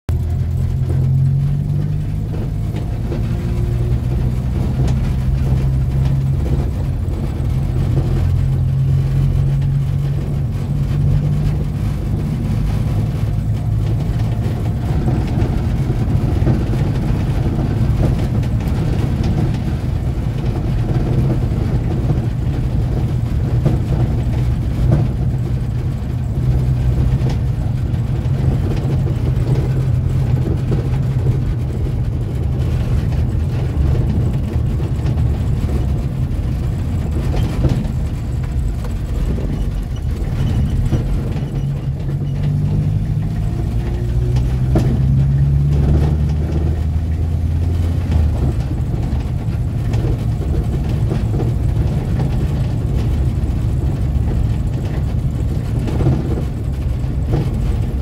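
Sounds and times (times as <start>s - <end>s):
car engine running: 0.1s - 58.0s
road noise: 0.1s - 58.0s.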